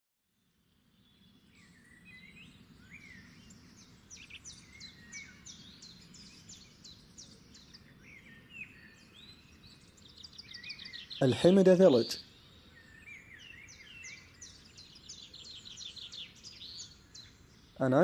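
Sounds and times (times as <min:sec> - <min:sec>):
birds chirping and whistling: 0:01.6 - 0:18.0.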